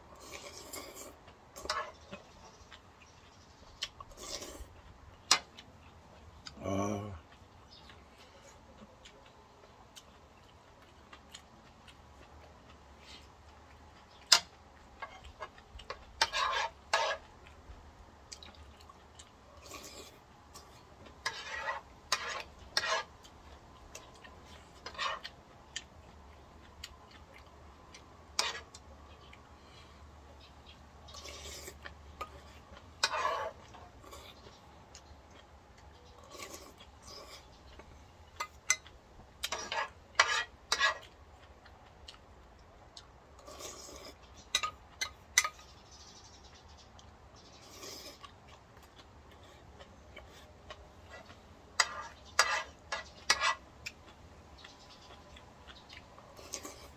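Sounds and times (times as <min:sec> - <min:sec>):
person slurping and chewing noodles: 0:00.0 - 0:30.2, 0:31.0 - 0:45.8, 0:47.4 - 0:56.9.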